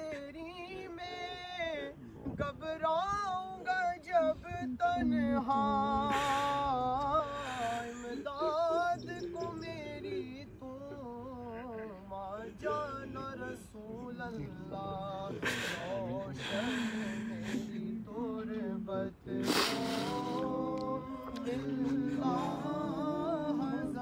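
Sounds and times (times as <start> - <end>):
person singing a devotional chant: 0.0 - 24.0.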